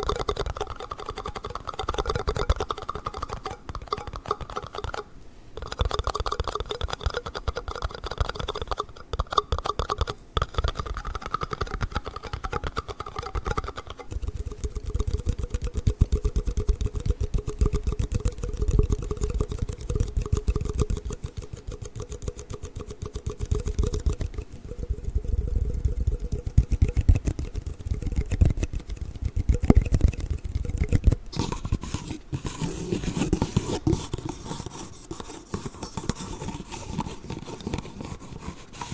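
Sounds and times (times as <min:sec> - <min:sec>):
plastic cups tapped and scraped: 0:00.0 - 0:38.9.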